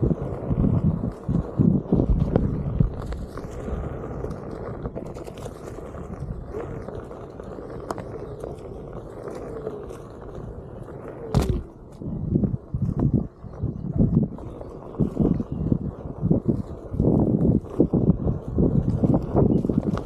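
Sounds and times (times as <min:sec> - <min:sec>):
tyre rumbling on dirt: 0:00.0 - 0:20.0.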